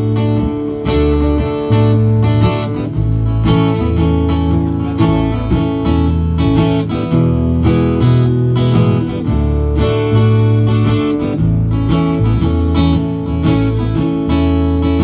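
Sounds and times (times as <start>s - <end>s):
acoustic guitar strumming chords: 0.0s - 15.0s
electric bass guitar: 0.0s - 15.0s.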